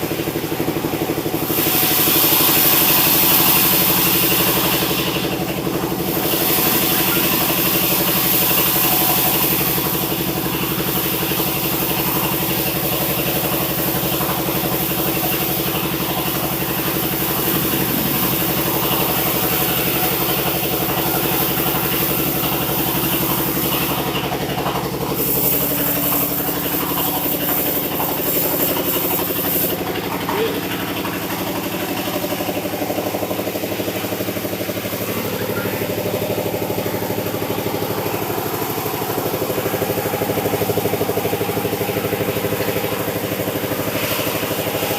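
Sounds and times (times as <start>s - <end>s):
sawmill engine running: 0.0s - 44.9s
hiss: 0.7s - 44.9s.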